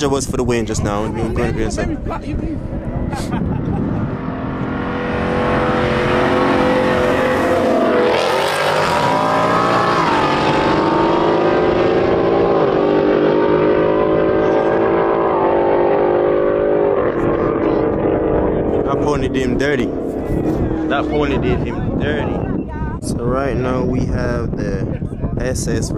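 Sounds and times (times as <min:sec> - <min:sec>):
car engines at full throttle: 0:00.0 - 0:25.8.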